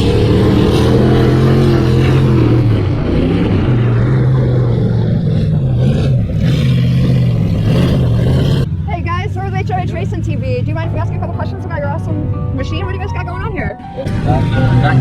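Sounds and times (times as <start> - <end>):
vehicle engine running loudly: 0.0 - 15.0.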